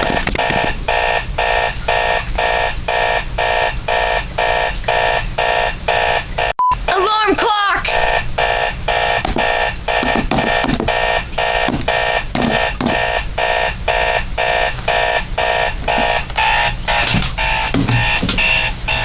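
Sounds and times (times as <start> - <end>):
alarm clock beeping: 0.0 - 7.1, 7.9 - 19.0.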